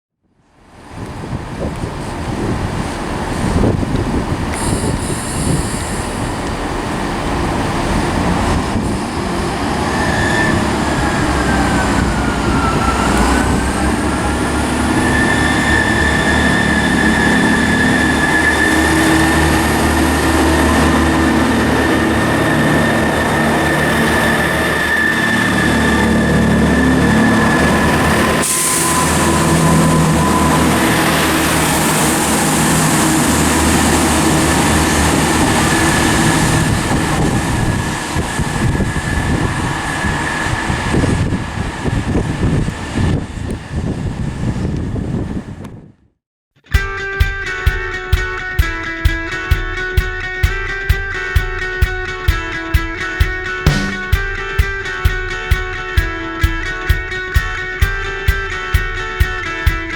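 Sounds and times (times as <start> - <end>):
high train whine: 0.6 - 45.4, 48.0 - 59.9
train rumble: 0.6 - 45.5, 47.1 - 59.9.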